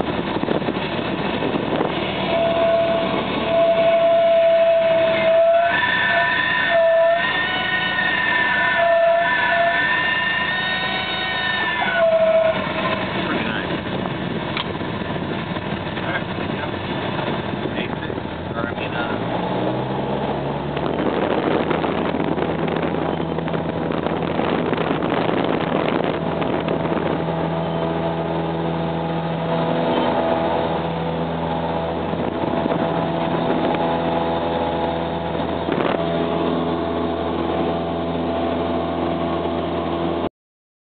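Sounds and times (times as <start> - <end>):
propeller airplane engine: 0.0 - 5.3, 12.1 - 40.3
runway rumble: 0.0 - 40.3.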